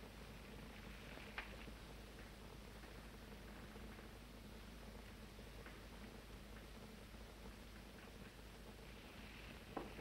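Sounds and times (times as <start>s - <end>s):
film soundtrack hiss: 0.0s - 10.0s.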